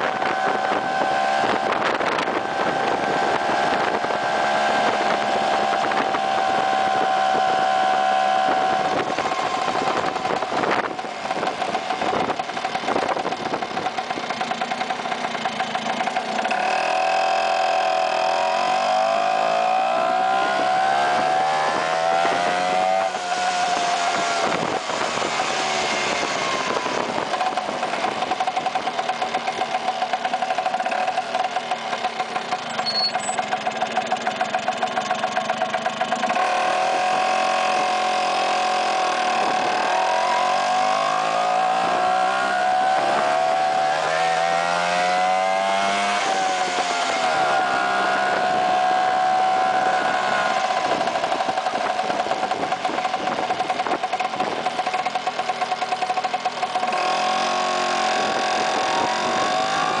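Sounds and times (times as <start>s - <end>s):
scooter engine accelerating: 0.0s - 60.0s.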